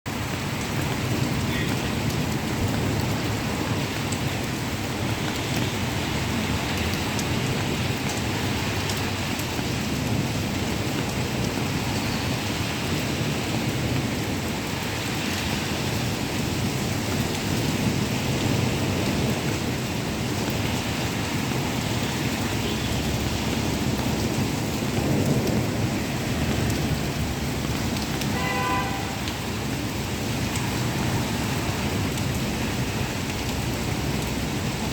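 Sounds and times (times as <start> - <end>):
heavy rain pouring: 0.1 - 34.9.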